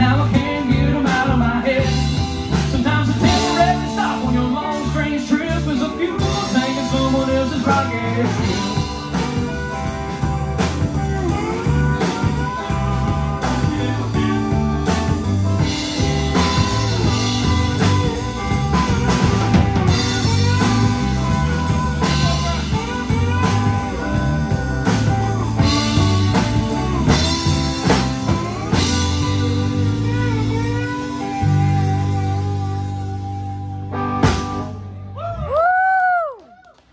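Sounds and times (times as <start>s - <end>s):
drum kit steady beat: 0.0s - 34.9s
electric bass: 0.0s - 36.3s
electric guitar lead: 0.0s - 36.3s.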